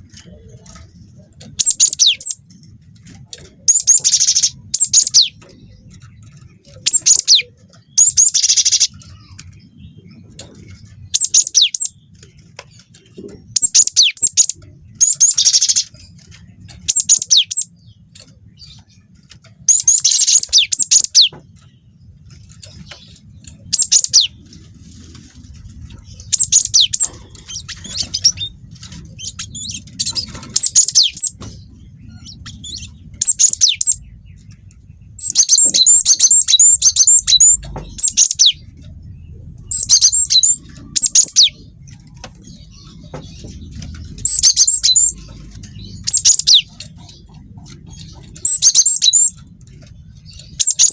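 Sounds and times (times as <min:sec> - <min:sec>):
bird chirping in bursts: 0:00.0 - 0:50.9.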